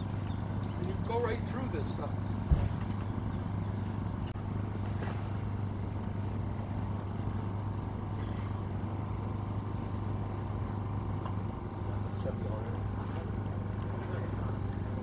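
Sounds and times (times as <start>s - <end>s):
generator humming: 0.0s - 15.0s.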